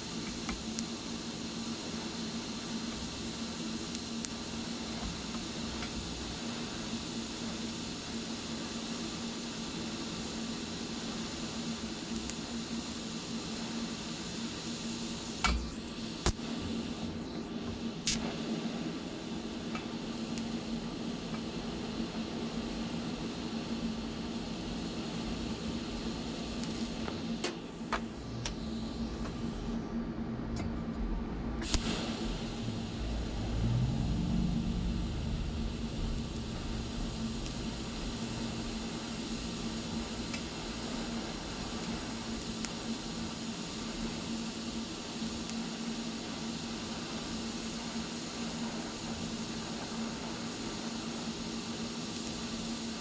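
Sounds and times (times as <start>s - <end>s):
welding hiss: 0.0s - 29.9s, 31.6s - 53.0s
constant hum: 0.0s - 53.0s.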